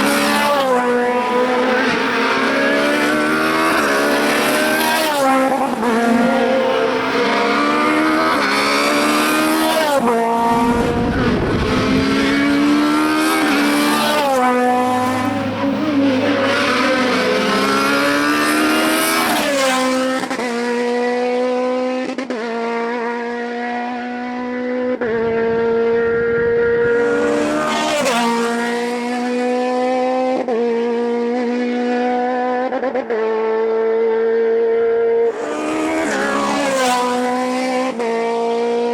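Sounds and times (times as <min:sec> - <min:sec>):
race car engine at full throttle: 0:00.0 - 0:38.9.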